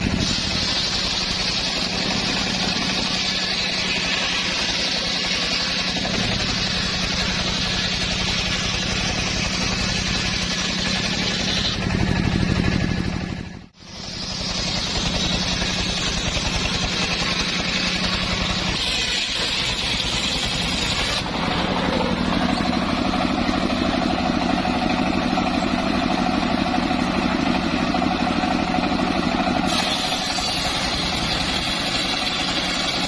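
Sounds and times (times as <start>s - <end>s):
saw engine running: 0.0s - 33.0s.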